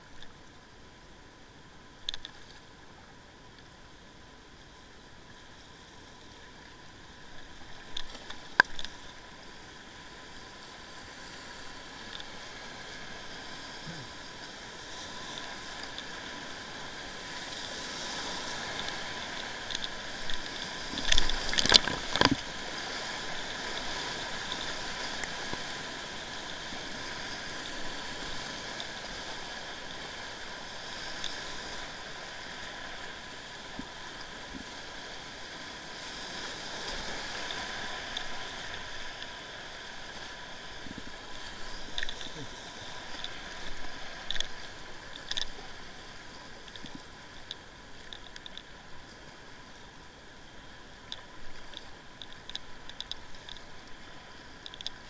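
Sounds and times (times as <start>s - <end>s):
paddle working water: 0.0s - 55.0s.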